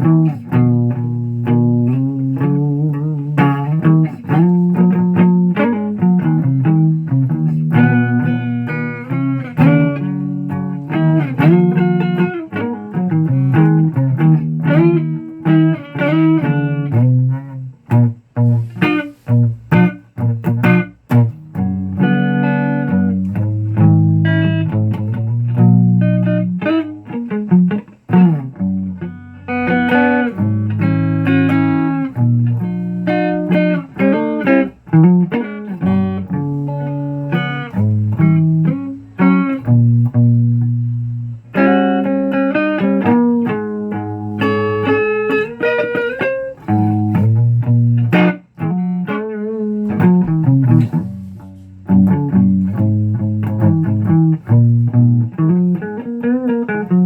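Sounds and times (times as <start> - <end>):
plucked guitar music: 0.0 - 57.0.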